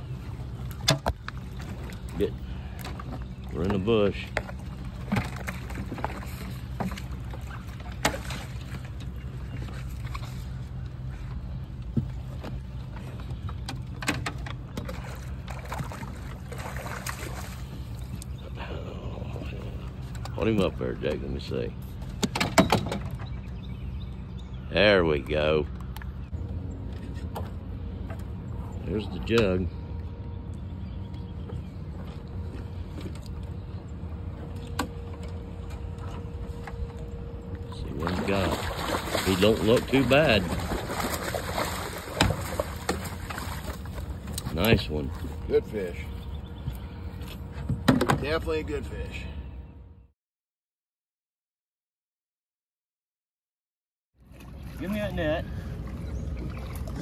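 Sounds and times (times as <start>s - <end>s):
boat motor running: 0.0s - 50.0s, 54.2s - 57.0s.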